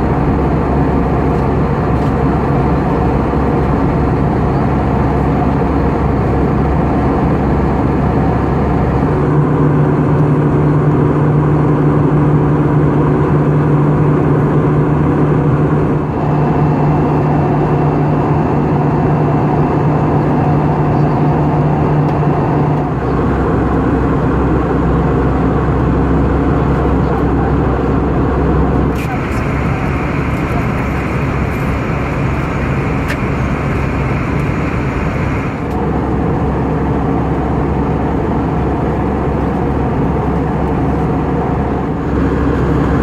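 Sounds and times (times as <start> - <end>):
airflow rushing in cabin: 0.0 - 43.0
jet engines from inside cabin: 0.0 - 43.0
low hum: 0.1 - 43.0.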